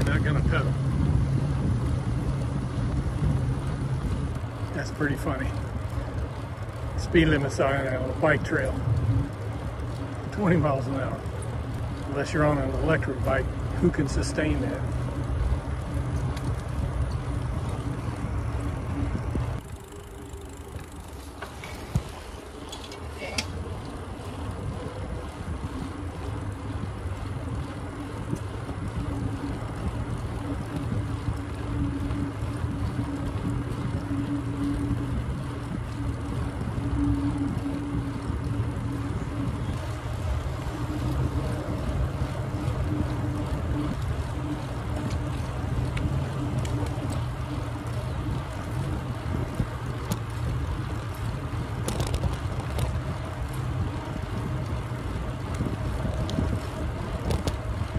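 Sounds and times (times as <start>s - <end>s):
bike tyres rolling on trail: 0.0s - 57.9s
steady hum: 0.0s - 57.9s
wind rushing over microphone: 0.0s - 57.9s.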